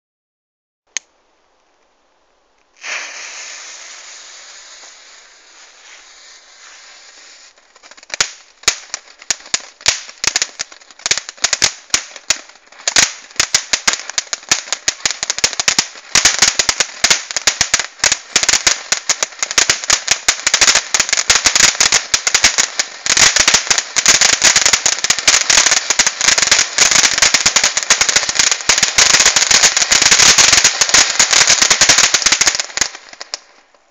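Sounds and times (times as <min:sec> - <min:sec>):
firework fountain hissing: 0:02.8 - 0:33.4
firework crackling: 0:02.8 - 0:33.9.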